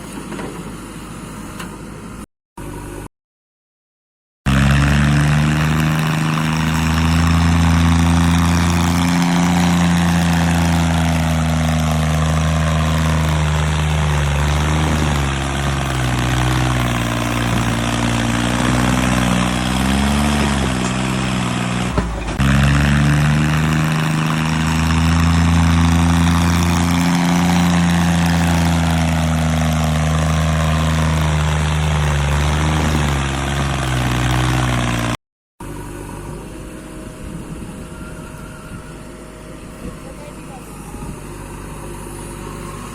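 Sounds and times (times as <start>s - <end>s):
heavy machinery engine running: 4.5s - 42.9s.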